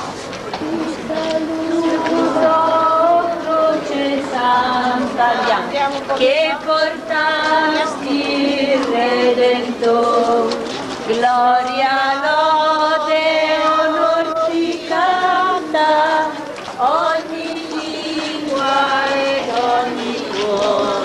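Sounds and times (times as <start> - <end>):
high voices singing a hymn: 0.6 - 21.0.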